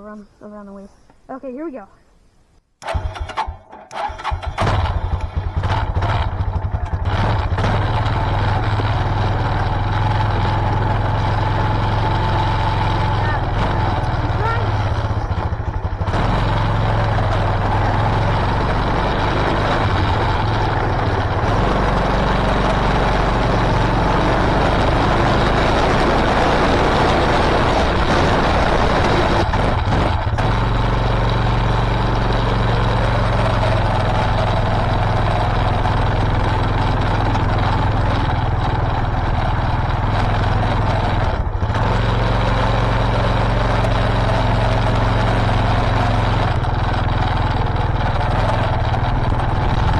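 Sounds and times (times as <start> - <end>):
lawn tractor engine cranking: 2.8 - 49.9.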